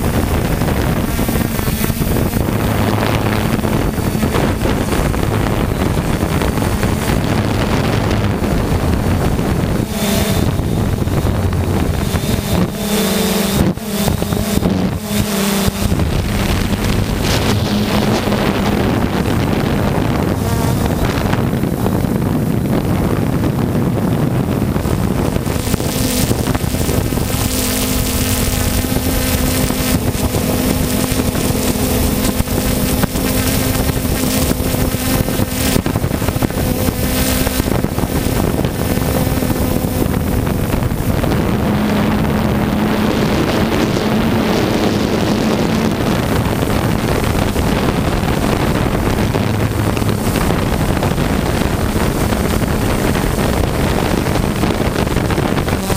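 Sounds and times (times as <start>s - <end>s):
drone propellers humming: 0.0s - 55.9s
wind on microphone: 0.0s - 55.9s.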